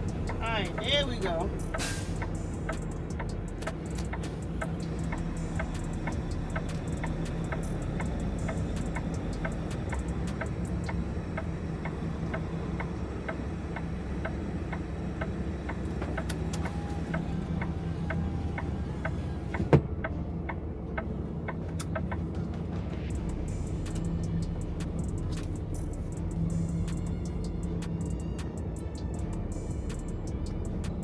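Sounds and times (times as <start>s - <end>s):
regular ticking: 0.0s - 31.0s
truck engine running: 0.0s - 31.0s.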